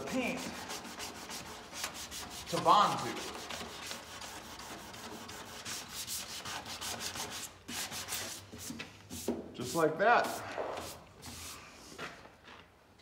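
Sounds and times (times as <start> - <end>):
sanding pad scrubbing metal: 0.0 - 11.5.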